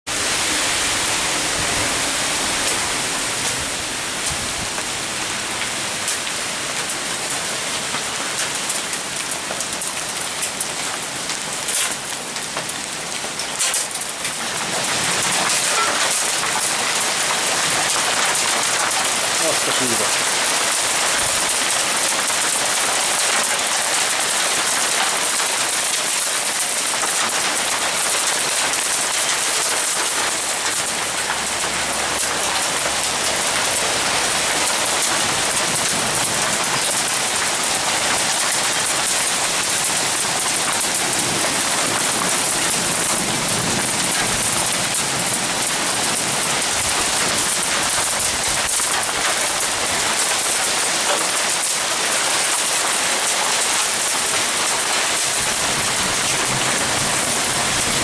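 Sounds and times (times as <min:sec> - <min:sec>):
hail and heavy rain on roof: 0:00.1 - 0:58.0.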